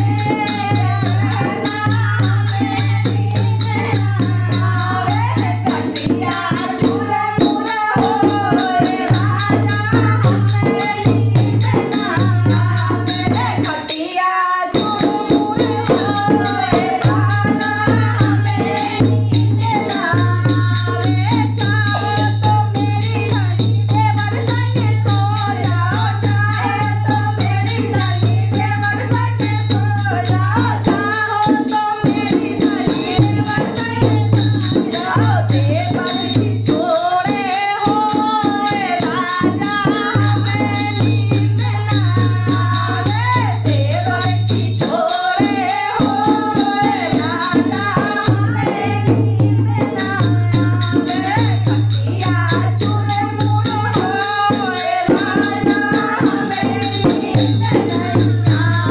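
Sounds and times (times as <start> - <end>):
folk song with drone and percussion: 0.0 - 58.9.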